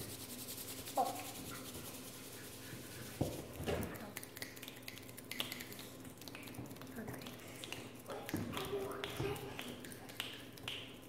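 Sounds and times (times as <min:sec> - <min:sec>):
children rubbing palms together: 0:00.0 - 0:11.0
fingertips tapping palms: 0:01.5 - 0:11.0.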